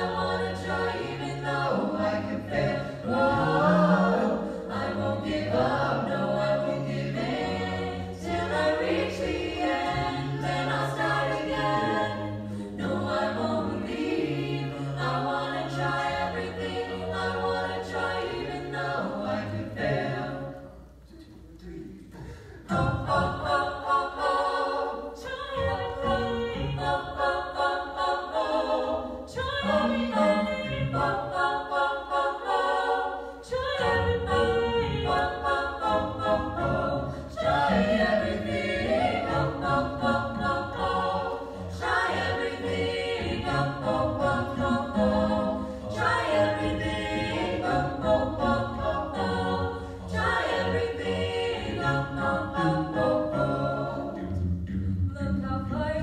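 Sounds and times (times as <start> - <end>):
vocal ensemble singing in harmony: 0.0 - 56.0.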